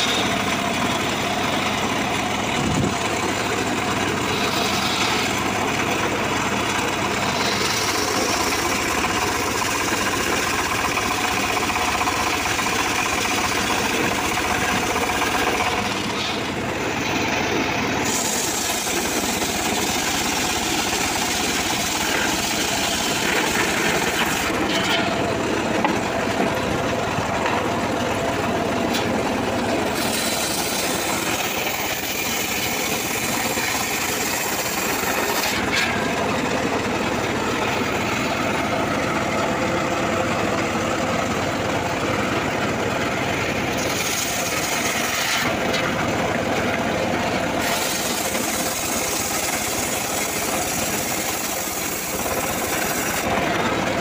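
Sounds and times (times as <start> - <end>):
circular saw cutting log: 0.0 - 54.0
engine running: 0.0 - 54.0.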